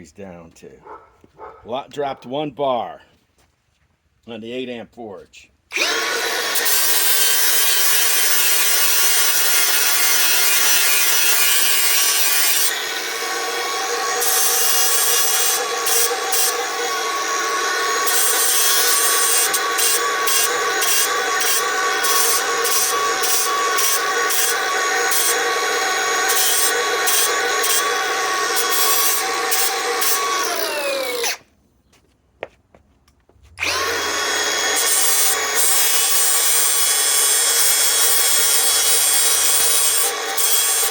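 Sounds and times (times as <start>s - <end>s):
angle grinder grinding metal: 5.7s - 31.4s, 33.6s - 40.9s
angle grinder spinning down: 5.7s - 31.4s, 33.6s - 40.9s.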